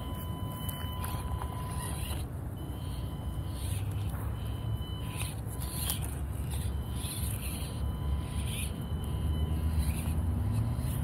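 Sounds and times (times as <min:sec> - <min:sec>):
toy car electric motor whirring: 0:00.0 - 0:11.0.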